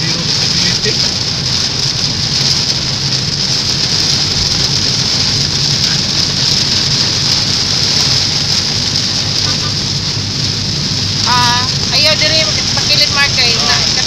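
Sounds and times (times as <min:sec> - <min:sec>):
car engine and tyres rumbling: 0:00.0 - 0:14.0
heavy rain on car roof: 0:00.0 - 0:14.0.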